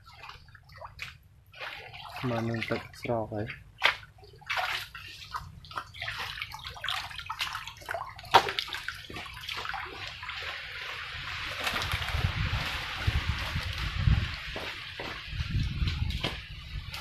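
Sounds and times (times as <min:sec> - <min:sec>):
muddy water sloshing: 0:00.0 - 0:17.0.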